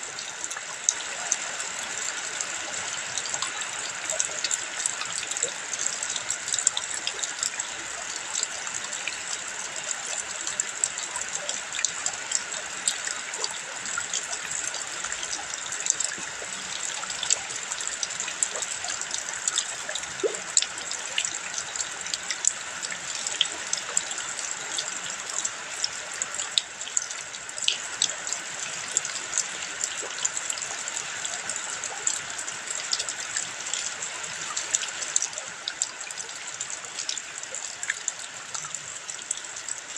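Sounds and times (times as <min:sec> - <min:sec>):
small splashes and drips: 0:00.0 - 0:39.9.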